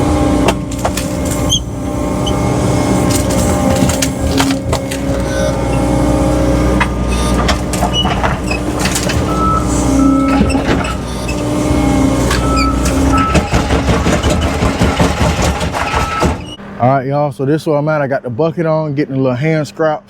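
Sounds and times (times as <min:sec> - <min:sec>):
diesel engine under load: 0:00.0 - 0:17.0
debris knocking and clattering: 0:00.2 - 0:16.6.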